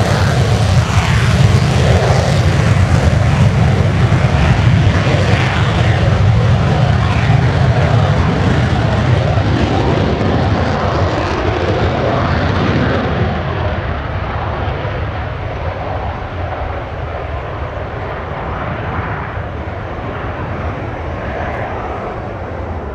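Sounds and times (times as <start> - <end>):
jet roaring in afterburner: 0.0 - 22.9.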